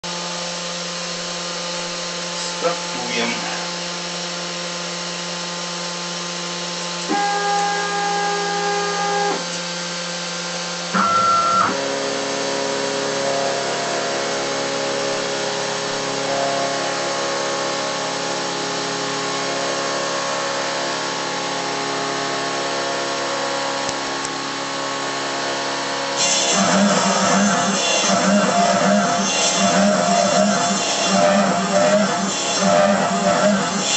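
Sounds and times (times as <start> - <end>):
router machine whine: 0.1 - 33.9.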